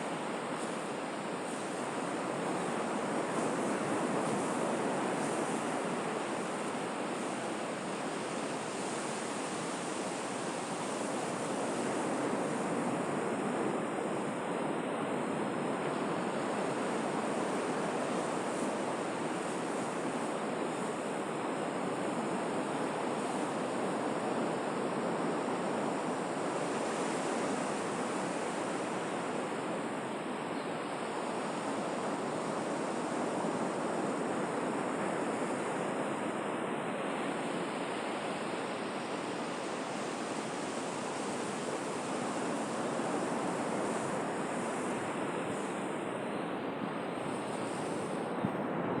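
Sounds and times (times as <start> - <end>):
sea surf washing onto shore: 0.0 - 49.0.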